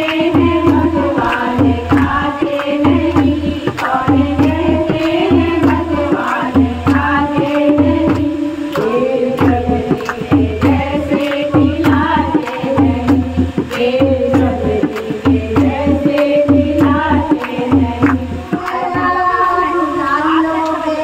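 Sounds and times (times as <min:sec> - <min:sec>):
handclaps: 0:00.0 - 0:19.1
hand drum: 0:00.0 - 0:19.8
women singing devotional song: 0:00.0 - 0:21.0.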